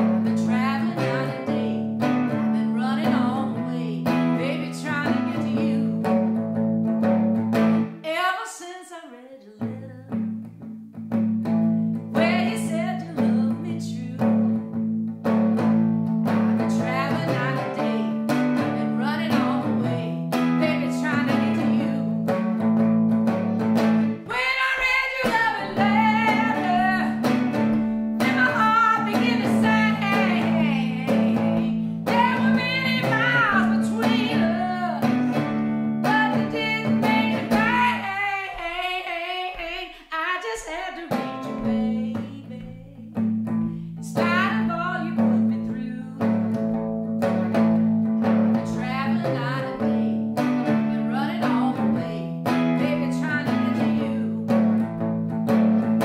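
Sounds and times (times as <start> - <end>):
archtop guitar playing: 0.0 - 8.1, 9.6 - 56.0
woman singing blues: 0.0 - 56.0.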